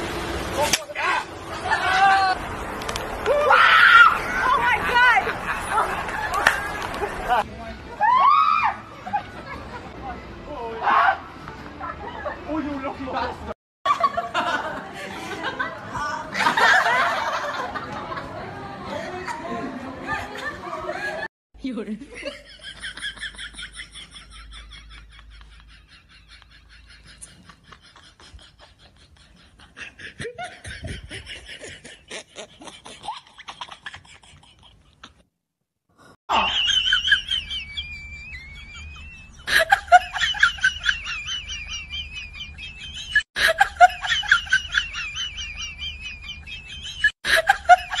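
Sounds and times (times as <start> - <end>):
people laughing: 4.3 - 8.2, 8.9 - 10.2, 11.8 - 21.3, 22.1 - 35.2, 36.3 - 48.0.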